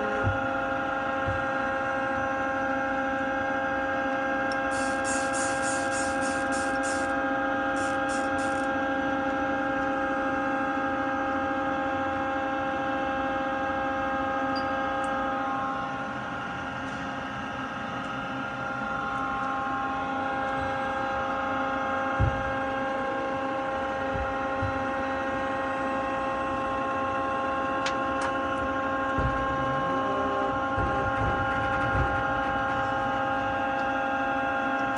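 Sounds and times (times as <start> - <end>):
lathe machine hum: 0.0 - 34.9.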